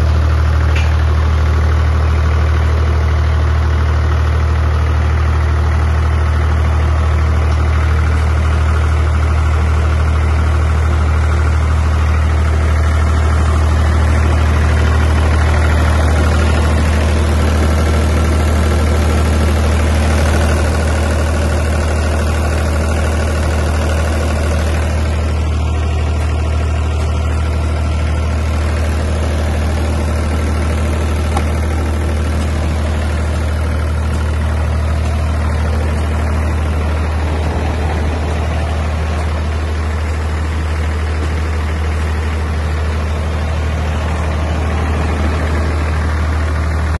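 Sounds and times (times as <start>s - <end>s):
diesel generator running: 0.0s - 47.0s.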